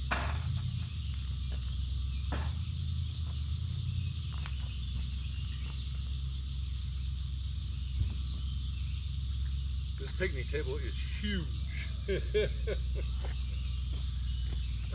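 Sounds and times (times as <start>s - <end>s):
distant generator humming: 0.0s - 14.9s
insects droning: 0.0s - 14.9s.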